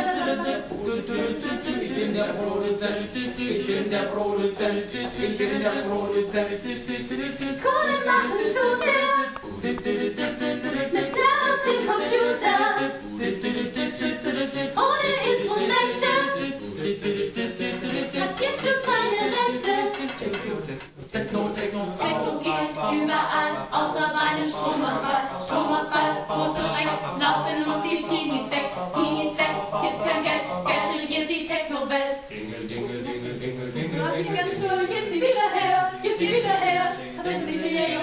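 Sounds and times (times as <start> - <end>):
voices singing without instruments: 0.0 - 38.0.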